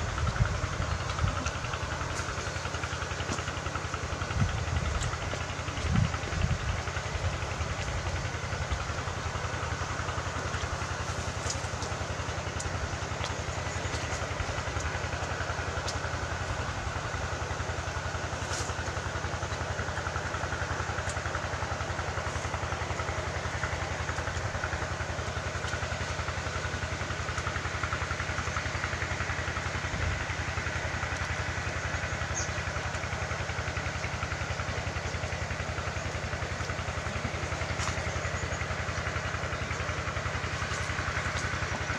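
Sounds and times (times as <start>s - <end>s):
engine running with pulsing hum: 0.0s - 41.9s.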